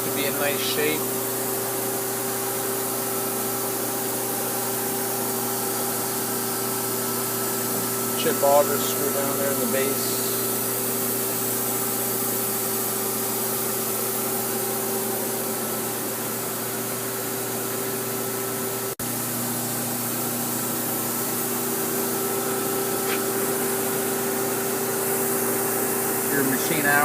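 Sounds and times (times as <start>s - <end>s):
lathe machine hum: 0.0s - 27.0s.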